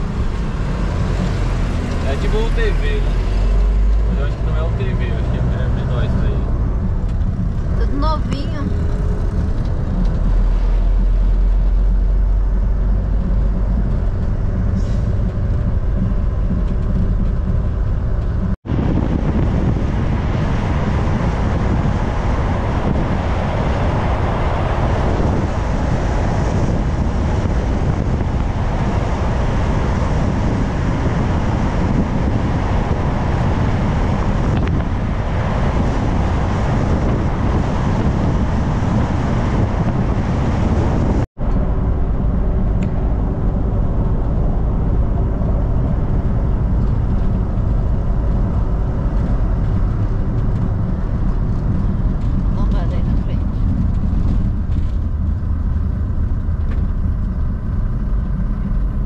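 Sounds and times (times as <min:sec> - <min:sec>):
road and wind noise: 0:00.0 - 0:59.0
vehicle engine drone: 0:00.0 - 0:59.0.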